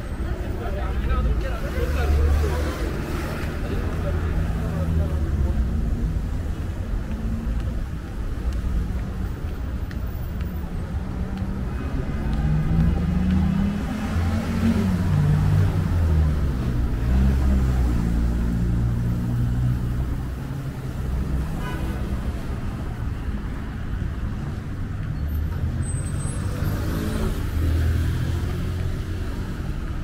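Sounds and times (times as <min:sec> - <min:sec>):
cars passing close by: 0:00.0 - 0:30.0.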